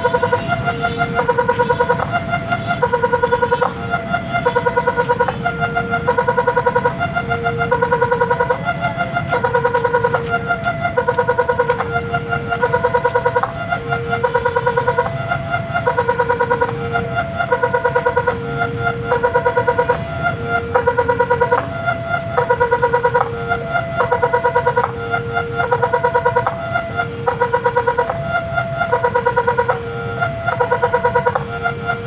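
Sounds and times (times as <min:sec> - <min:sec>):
level crossing warning alarm: 0:00.0 - 0:32.0.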